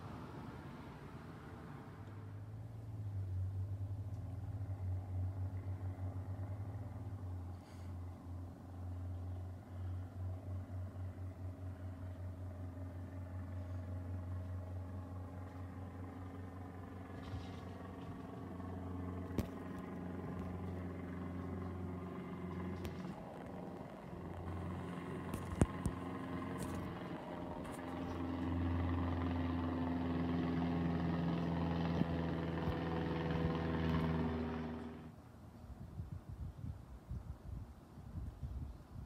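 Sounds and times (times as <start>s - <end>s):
light aircraft engine drone: 0.0s - 39.0s.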